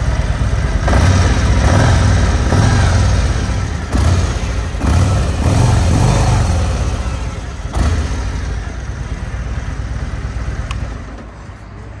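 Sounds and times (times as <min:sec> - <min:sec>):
motorcycle engine revving: 0:00.0 - 0:10.7.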